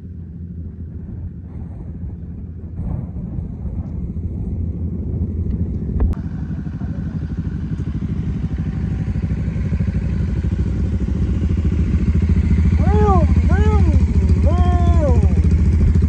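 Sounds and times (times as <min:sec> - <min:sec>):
motorcycle engines at low revs: 0:00.0 - 0:16.0
motorcycles idling: 0:00.0 - 0:16.0.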